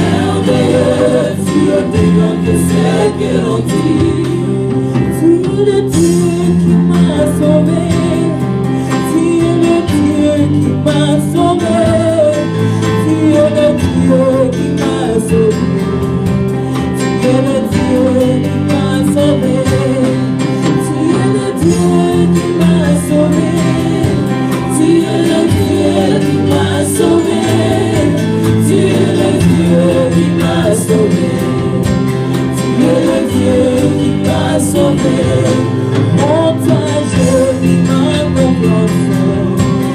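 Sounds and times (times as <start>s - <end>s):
singers: 0.0s - 15.9s, 16.8s - 39.9s
electric guitar: 0.0s - 39.9s
held keyboard chords: 0.0s - 39.9s.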